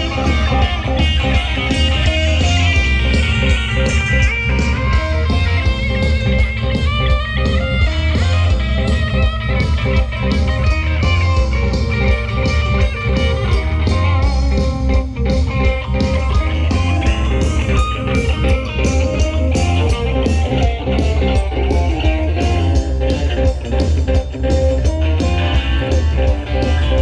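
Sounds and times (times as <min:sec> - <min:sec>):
bass guitar: 0:00.0 - 0:27.0
electric guitar melody: 0:00.0 - 0:27.0
steady drum beat: 0:00.0 - 0:27.0.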